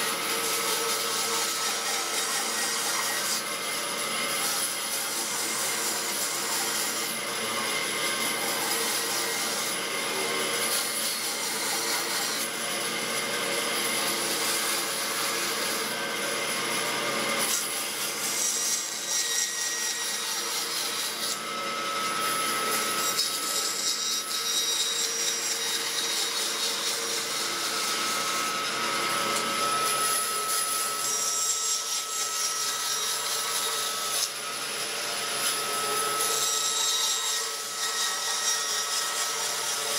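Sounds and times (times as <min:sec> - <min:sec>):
bandsaw cutting wood: 0:00.0 - 0:39.9.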